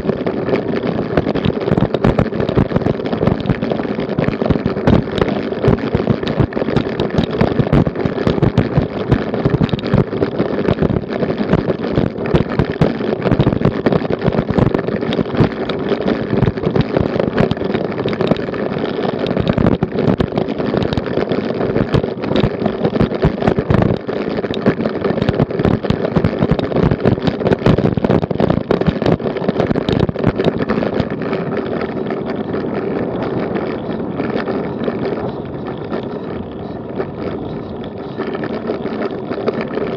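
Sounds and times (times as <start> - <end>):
bicycle rattling over cobblestones: 0.0 - 39.9
wind on microphone: 0.0 - 39.9.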